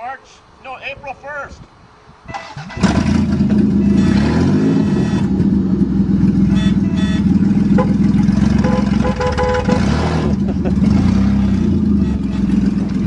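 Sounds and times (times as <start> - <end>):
truck engine starting and running: 2.2 - 13.0.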